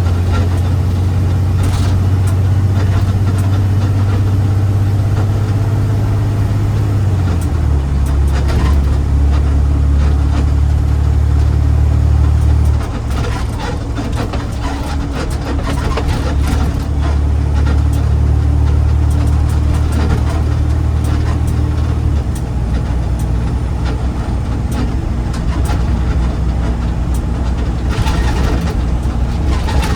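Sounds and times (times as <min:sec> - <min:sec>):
garbage truck diesel engine: 0:00.0 - 0:29.9.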